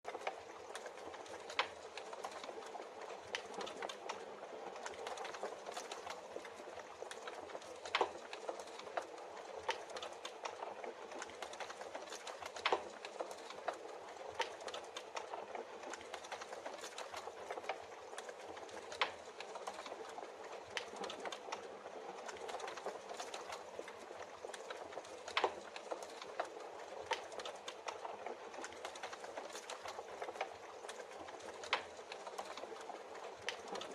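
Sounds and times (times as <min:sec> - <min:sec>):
wood fire crackling: 0:00.1 - 0:33.9
fire popping and snapping: 0:04.8 - 0:33.9.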